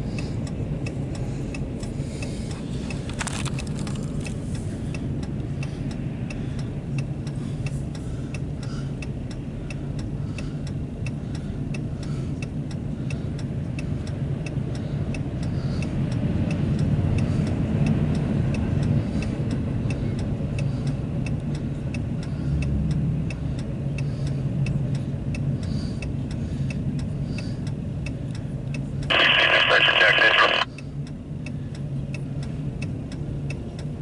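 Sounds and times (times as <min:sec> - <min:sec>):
regular ticking: 0:04.2 - 0:34.0.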